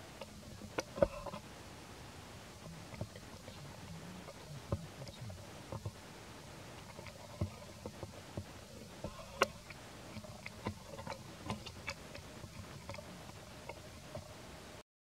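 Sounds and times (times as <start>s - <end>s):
faint clicks and ticks: 0.0s - 1.6s, 2.4s - 14.6s
low steady hiss: 0.0s - 14.8s.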